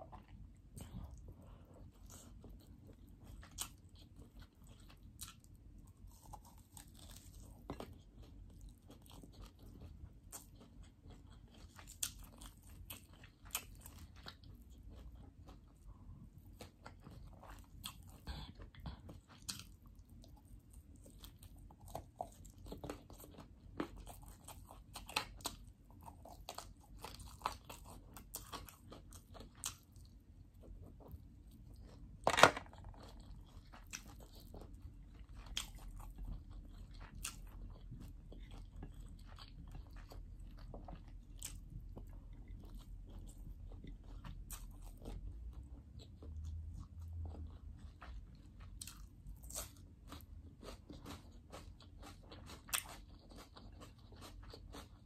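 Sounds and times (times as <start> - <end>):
person chewing and crunching: 0.0 - 55.0.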